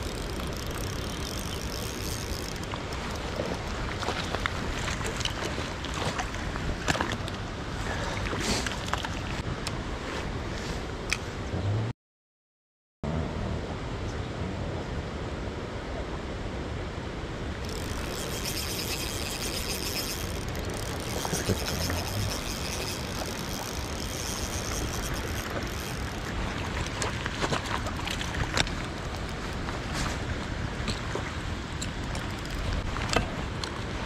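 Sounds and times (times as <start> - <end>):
river running: 0.0 - 11.2, 17.2 - 34.0.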